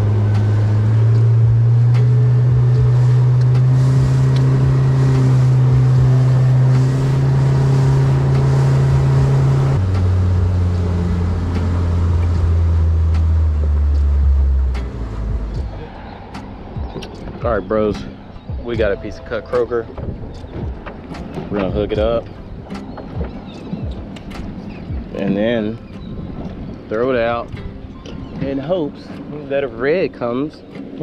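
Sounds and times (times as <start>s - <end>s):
boat engine running: 0.0s - 31.0s
wind and water rushing: 0.0s - 31.0s.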